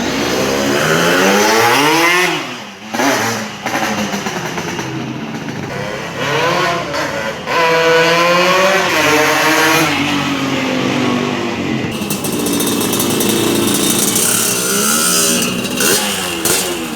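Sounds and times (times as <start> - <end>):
two-stroke motorcycle revving: 0.0 - 16.9.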